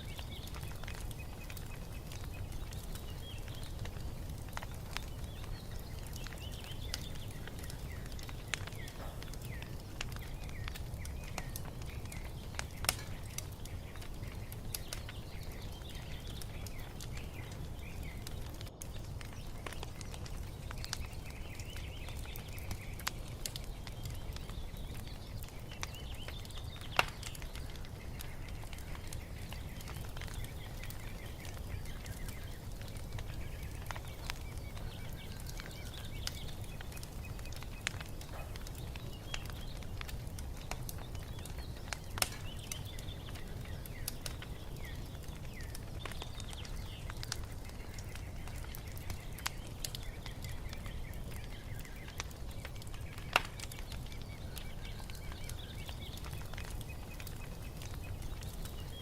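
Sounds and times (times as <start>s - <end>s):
faint birds chirping: 0.0s - 59.0s
wood fire crackling and popping: 0.0s - 59.0s.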